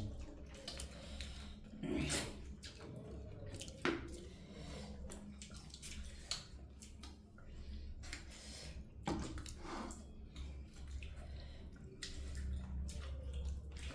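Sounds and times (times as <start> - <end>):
wet chewing smacks: 0.0 - 13.9.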